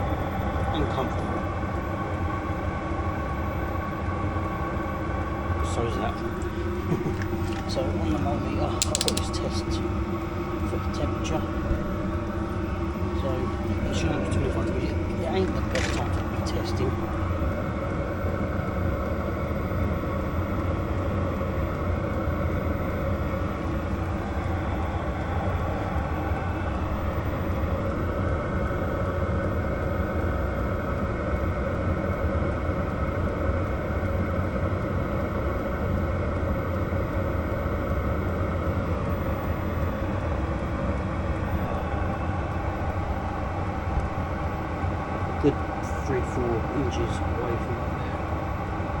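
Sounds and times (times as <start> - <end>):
diesel air heater droning: 0.0 - 49.0.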